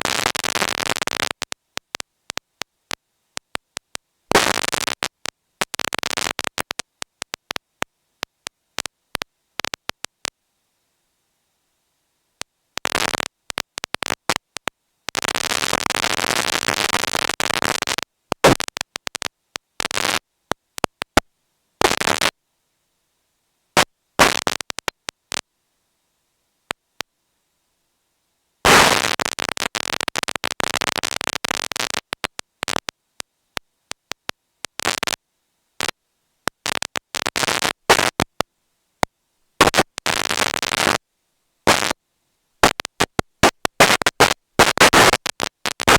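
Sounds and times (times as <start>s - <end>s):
crackling buzzing noise bursts: 0.0s - 22.4s, 23.7s - 27.8s, 28.6s - 42.0s, 42.6s - 45.9s.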